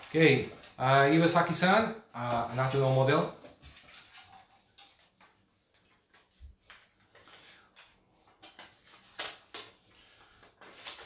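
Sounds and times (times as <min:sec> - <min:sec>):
paper rustling and clicking: 0:00.0 - 0:11.0.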